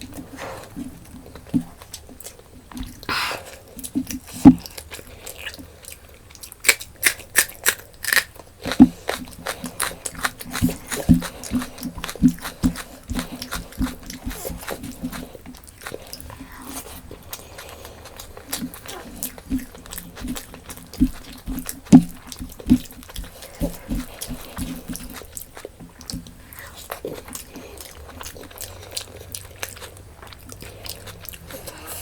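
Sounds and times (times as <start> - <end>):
wet chewing and crunching: 0.0 - 32.0.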